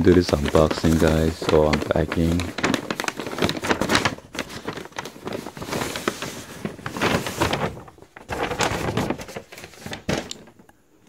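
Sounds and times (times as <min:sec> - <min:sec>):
paper bag rustling: 0:00.0 - 0:10.7.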